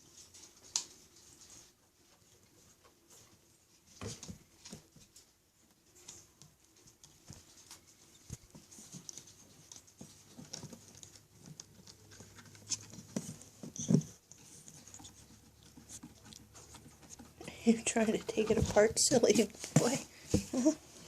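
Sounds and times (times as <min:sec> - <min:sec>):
pets scampering on wood: 0:00.0 - 0:21.0.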